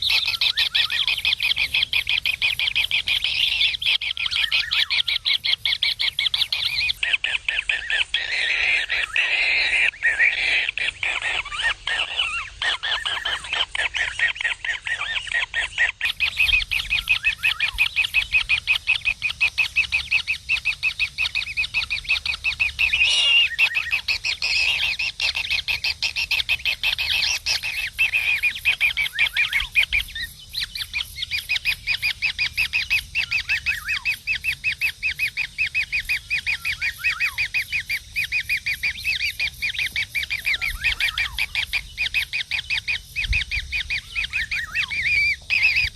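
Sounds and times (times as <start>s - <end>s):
kingfisher nestling begging calls: 0.0s - 30.1s, 30.9s - 45.9s.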